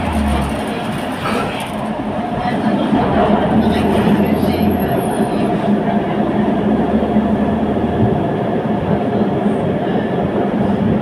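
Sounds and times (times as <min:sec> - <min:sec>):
tram motor hum: 0:00.0 - 0:11.0
tram wheels rumbling on rails: 0:00.0 - 0:11.0.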